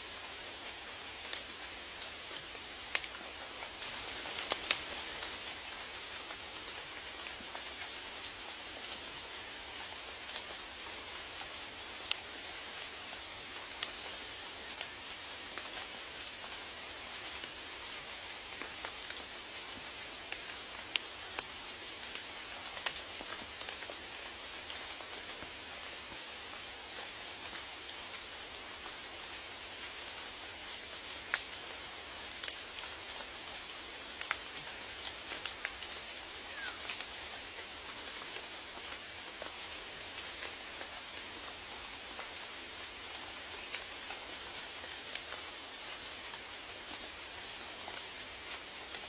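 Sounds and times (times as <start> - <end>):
rain hiss: 0.0 - 49.0.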